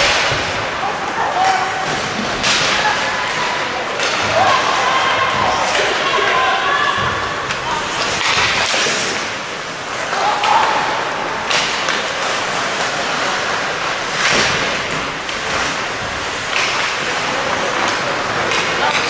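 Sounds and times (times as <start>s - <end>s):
skate blades scraping ice: 0.0s - 19.0s.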